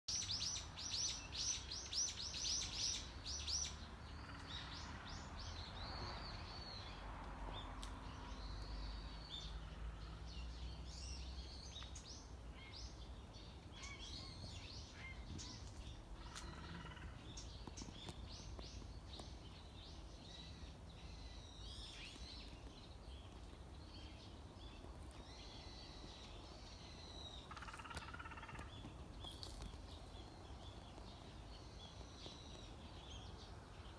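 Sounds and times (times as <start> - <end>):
birds chirping: 0.1 - 33.9.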